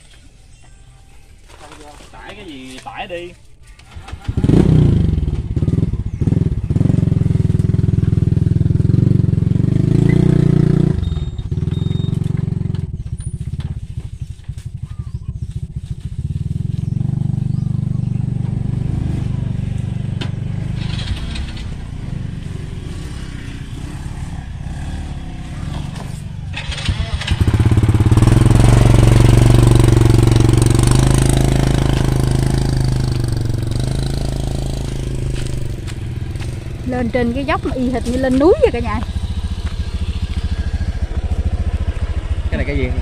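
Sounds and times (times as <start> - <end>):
motorbike engine revving and idling: 3.8 - 43.0.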